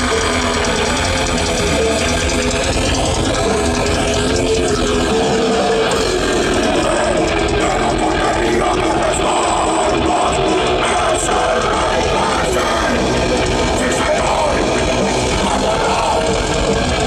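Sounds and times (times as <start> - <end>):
growled vocals: 0.0 - 17.0
metal band playing live: 0.0 - 17.0.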